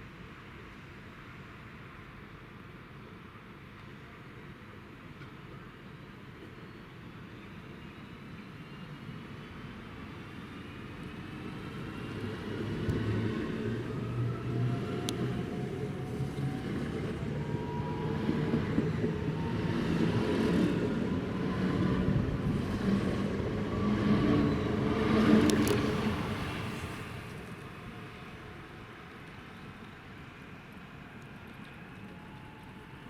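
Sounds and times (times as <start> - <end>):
train rolling on rails: 3.4 - 33.0.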